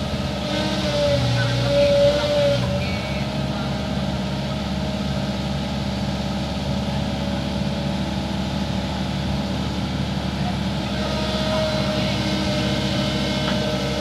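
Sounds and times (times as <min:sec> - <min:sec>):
excavator diesel engine idling: 0:00.0 - 0:14.0.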